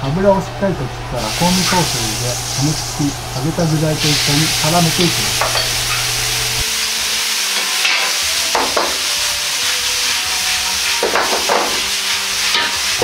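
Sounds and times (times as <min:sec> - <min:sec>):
sauce sizzling in a wok: 0:01.1 - 0:13.0
food being stirred: 0:01.2 - 0:06.7, 0:07.4 - 0:13.0.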